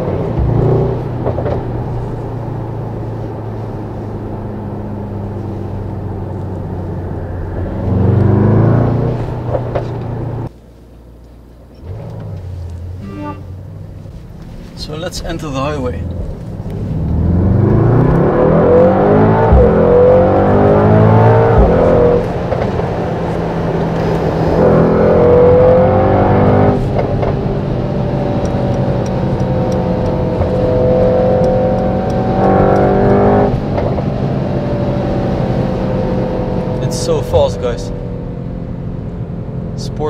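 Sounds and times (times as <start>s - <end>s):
car engine accelerating: 0.0s - 10.5s, 11.6s - 40.0s.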